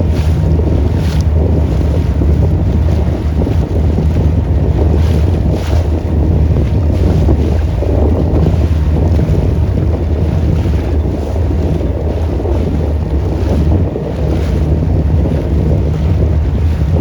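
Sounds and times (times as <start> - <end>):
motorboat engine: 0.0 - 17.0
water rushing: 0.0 - 17.0
wind buffeting microphone: 0.0 - 17.0.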